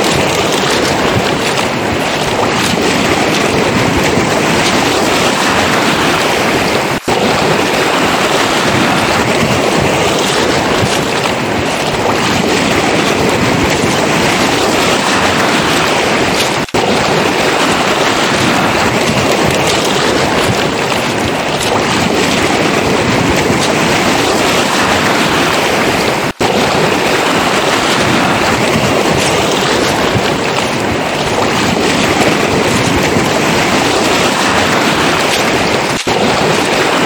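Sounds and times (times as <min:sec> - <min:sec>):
surf washing on pebble beach: 0:00.0 - 0:37.0
wind buffeting microphone: 0:00.0 - 0:37.0.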